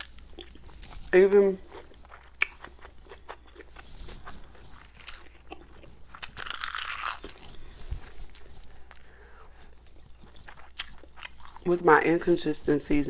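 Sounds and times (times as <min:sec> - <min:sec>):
person chewing noodles: 0:00.0 - 0:11.7.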